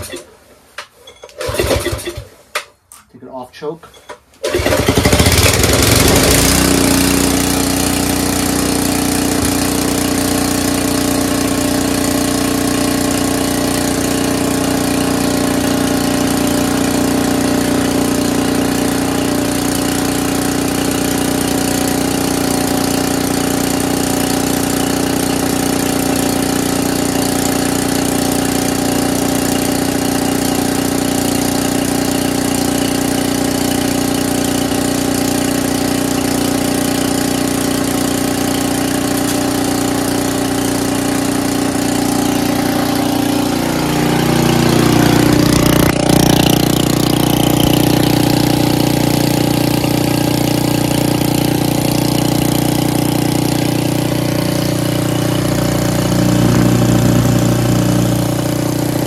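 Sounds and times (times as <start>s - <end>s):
pressure washer engine running: 4.4s - 59.0s.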